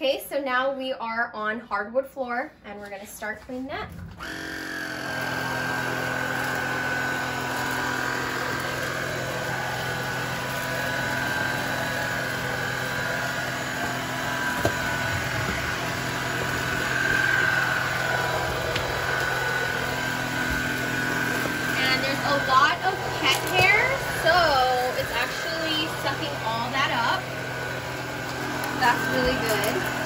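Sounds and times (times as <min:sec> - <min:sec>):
stick vacuum motor whining: 0:03.9 - 0:30.0.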